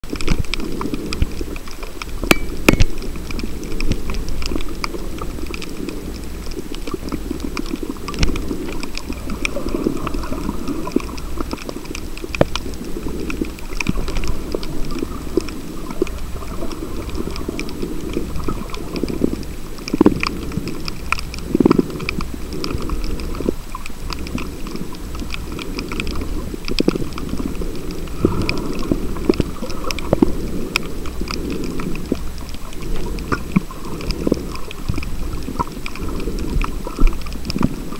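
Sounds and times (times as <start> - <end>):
crackle of reef clicks: 0.0 - 37.9
muffled underwater rumble: 0.0 - 37.9.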